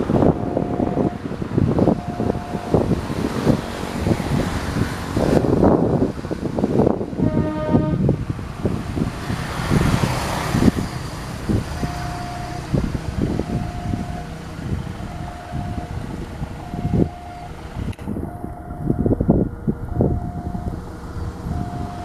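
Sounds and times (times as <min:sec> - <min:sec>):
locomotive engine rumbling: 0:00.0 - 0:22.0.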